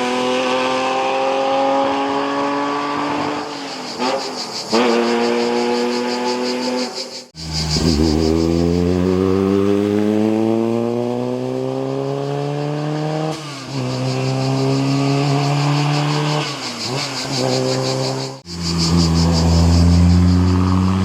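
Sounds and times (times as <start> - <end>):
racing car engine accelerating: 0.0 - 6.7, 7.4 - 21.0
cicadas buzzing: 2.8 - 21.0.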